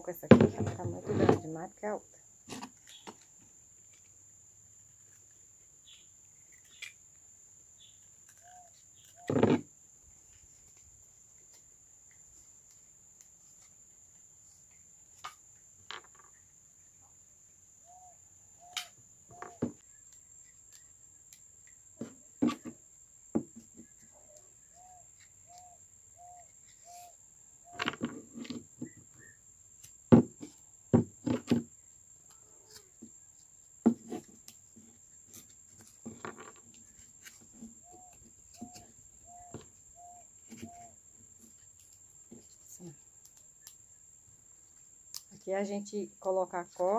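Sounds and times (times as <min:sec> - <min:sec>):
high insect whine: 0:00.1 - 0:46.2.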